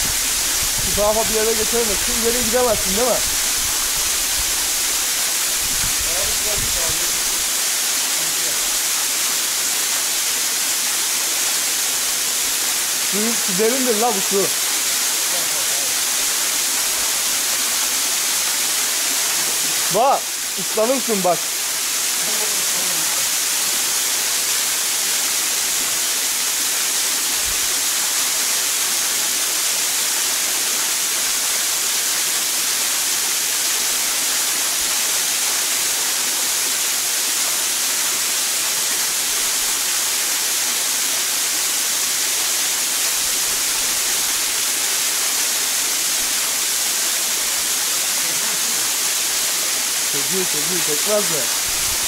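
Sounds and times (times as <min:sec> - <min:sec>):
small waterfall splashing: 0:00.0 - 0:52.0.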